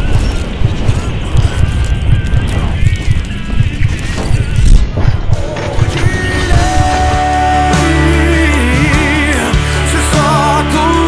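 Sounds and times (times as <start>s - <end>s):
steady low bass: 0.0s - 11.0s
worship song melody: 0.0s - 11.0s.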